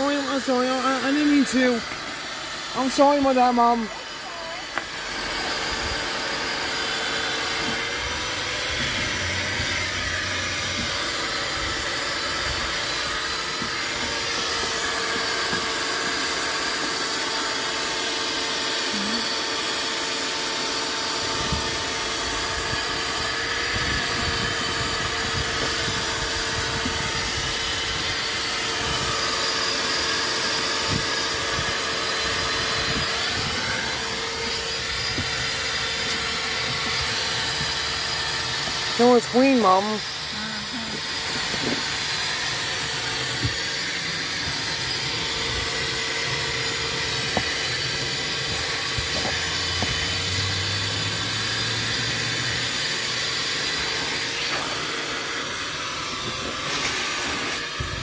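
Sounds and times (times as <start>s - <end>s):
shop vacuum running: 0.0s - 58.0s.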